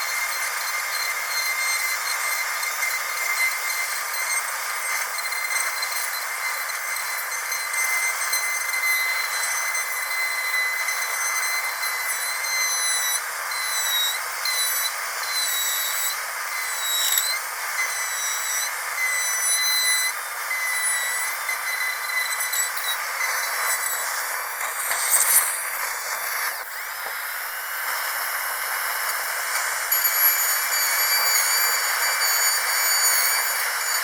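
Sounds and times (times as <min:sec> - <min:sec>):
dentist's drill whining: 0:00.0 - 0:34.0.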